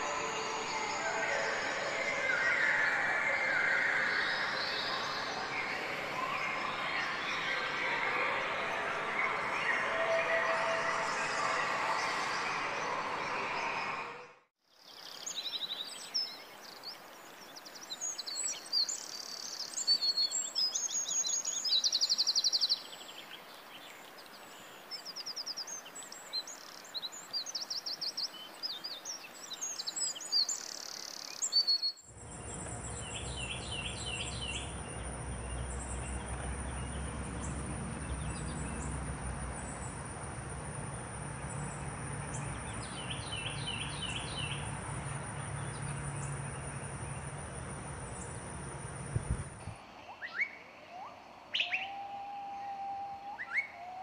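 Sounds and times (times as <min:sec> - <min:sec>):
birds chirping and trilling: 0:00.0 - 0:14.0, 0:14.8 - 0:54.0.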